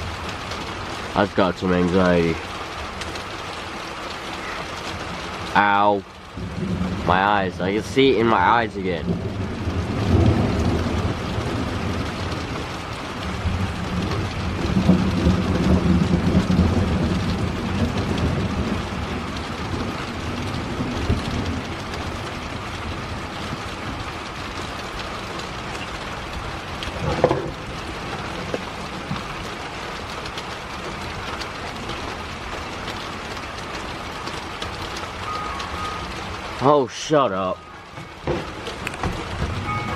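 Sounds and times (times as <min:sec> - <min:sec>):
steady rain: 0:00.0 - 0:39.9
rolling rumble of thunder: 0:06.2 - 0:36.6, 0:37.8 - 0:39.9.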